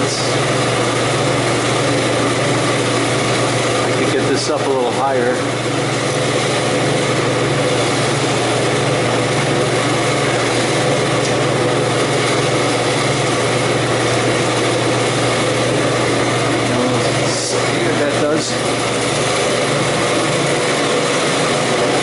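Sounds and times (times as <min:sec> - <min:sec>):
cooler fans humming: 0:00.0 - 0:22.0.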